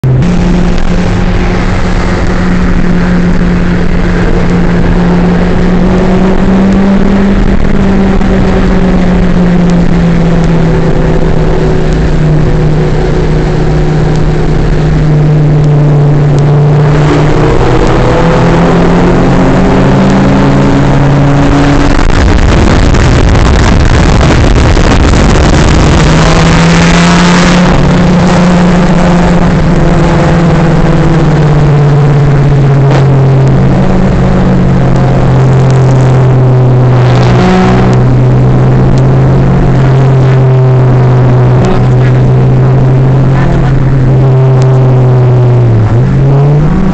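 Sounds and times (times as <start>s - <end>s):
car engine from inside cabin: 0.0s - 46.9s
wind and road noise: 0.0s - 46.9s.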